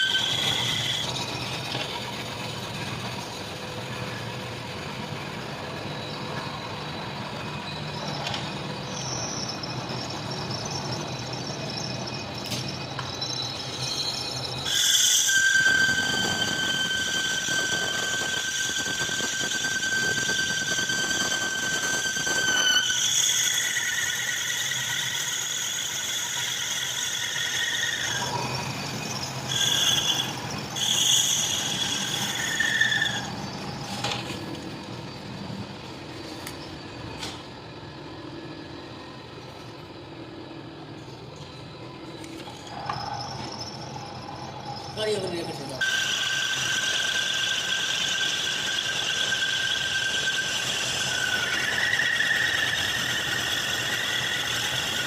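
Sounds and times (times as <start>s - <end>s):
cutting tool squealing on steel: 0.0s - 3.3s, 5.8s - 34.6s, 42.2s - 55.0s.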